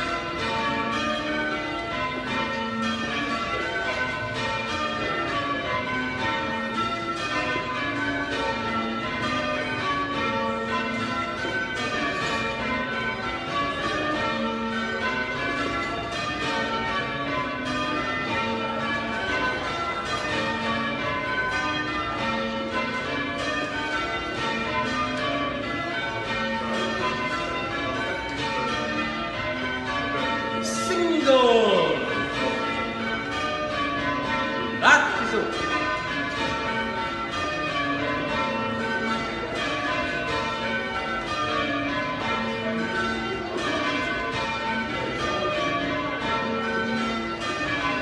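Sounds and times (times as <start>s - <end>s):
church bells change ringing: 0.0s - 48.0s.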